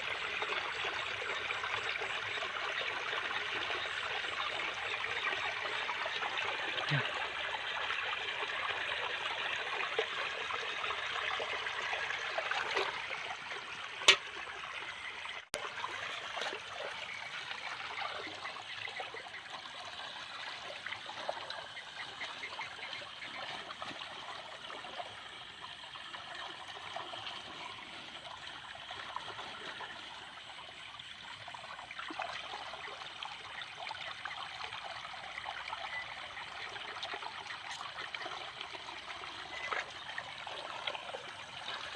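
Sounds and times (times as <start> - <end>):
water trickling: 0.0 - 41.9.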